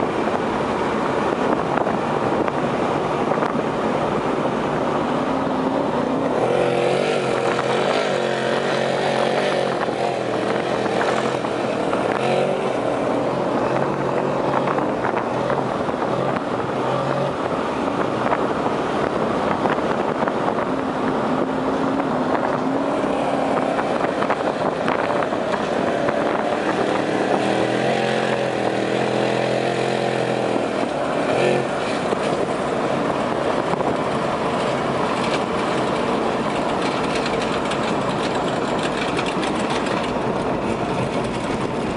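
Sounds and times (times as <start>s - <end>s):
truck engine running hard: 0.0s - 41.9s
tyre and wind noise: 0.0s - 41.9s.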